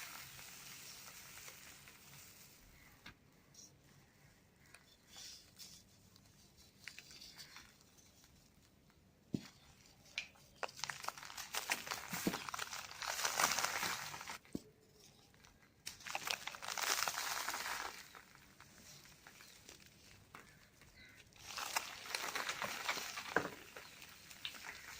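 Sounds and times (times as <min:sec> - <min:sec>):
cement crumbling crackle: 0:00.0 - 0:03.0, 0:06.2 - 0:24.9.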